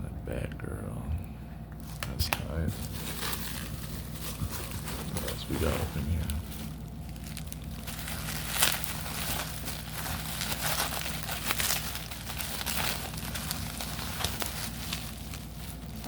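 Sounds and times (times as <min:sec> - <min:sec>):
card packaging crinkling: 0:01.8 - 0:16.0.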